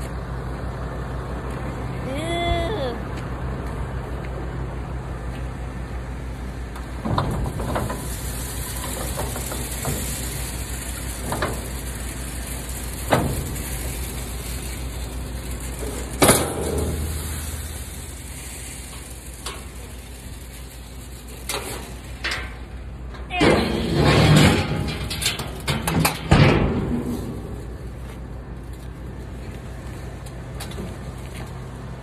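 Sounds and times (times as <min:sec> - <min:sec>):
farm machine engine running: 0:03.1 - 0:32.0.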